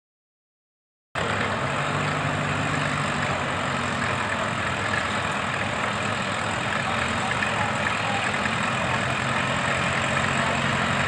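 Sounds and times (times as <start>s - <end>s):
tractor engine idling: 1.2s - 11.0s.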